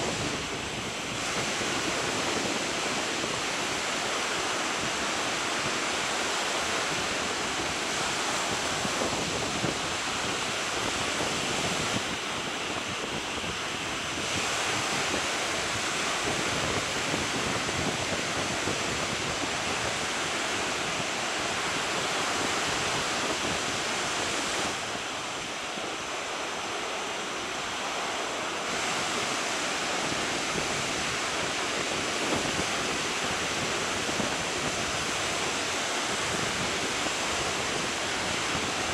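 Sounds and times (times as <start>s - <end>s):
surf washing on beach: 0.0s - 38.9s
wind on microphone: 0.0s - 38.9s.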